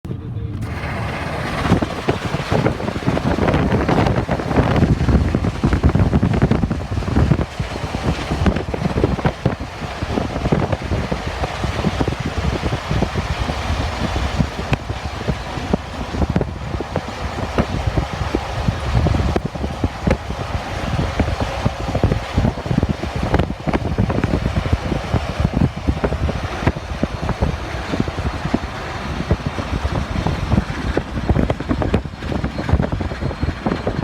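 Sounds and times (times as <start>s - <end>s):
steam locomotive rumbling: 0.1s - 34.0s
wind buffeting microphone: 0.2s - 34.0s.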